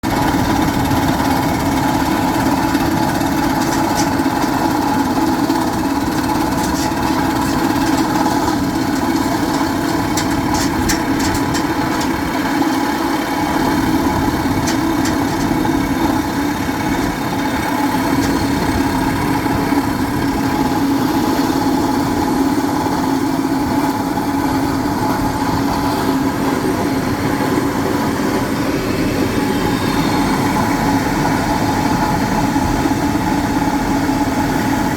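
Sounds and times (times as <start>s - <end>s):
drilling rig droning: 0.0s - 34.9s.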